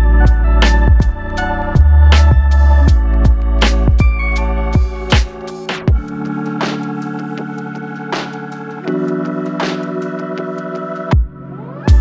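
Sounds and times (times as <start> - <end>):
organ-like chords: 0.0 - 12.0.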